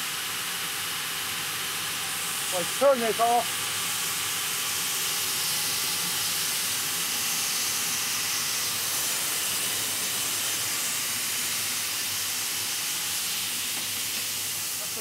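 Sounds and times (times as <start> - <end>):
steam hissing from safety valves: 0.0 - 15.0.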